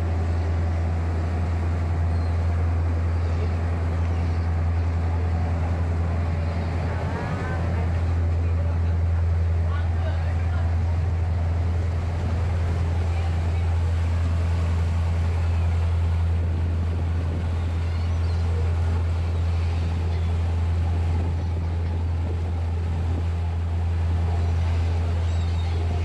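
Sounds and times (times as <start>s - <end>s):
boat engine droning: 0.0s - 26.0s
propeller wake churning: 0.0s - 26.0s
wind: 0.0s - 26.0s.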